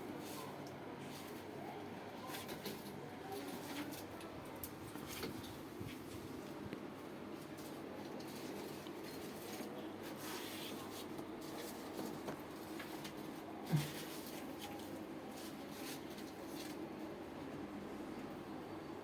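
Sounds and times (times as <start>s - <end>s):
faint scraping and handling: 0.1s - 16.9s.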